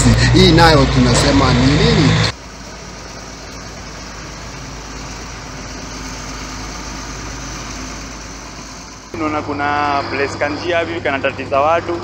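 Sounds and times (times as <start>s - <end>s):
road roller diesel engine running: 0.0s - 12.0s.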